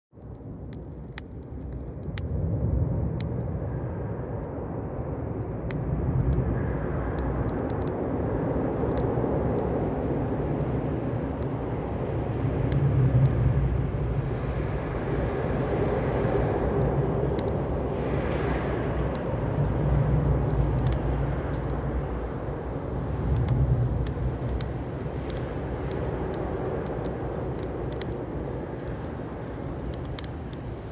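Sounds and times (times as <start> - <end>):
campfire crackling and popping: 0.1 - 30.9
low rumble: 1.6 - 30.9.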